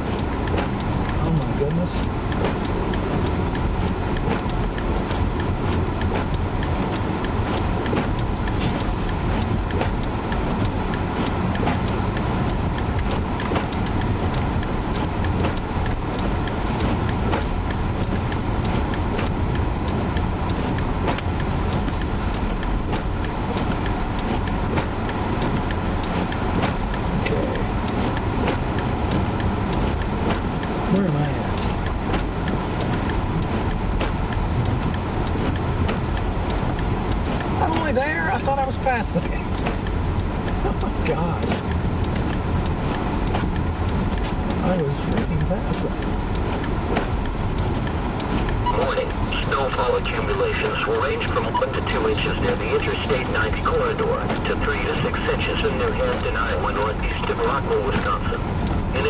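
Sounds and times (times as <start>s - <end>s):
car road and engine noise: 0.0s - 59.0s
light ticks: 0.0s - 59.0s.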